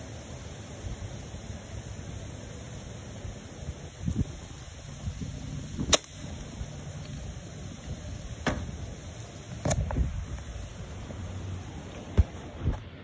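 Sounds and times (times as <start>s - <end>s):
wind hiss: 0.0s - 13.0s.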